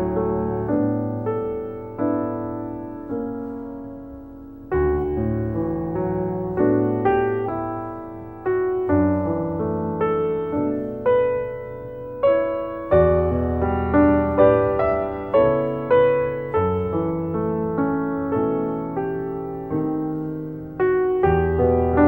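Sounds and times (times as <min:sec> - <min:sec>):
deep piano bass notes: 0:00.0 - 0:22.0
piano single notes: 0:00.0 - 0:22.0.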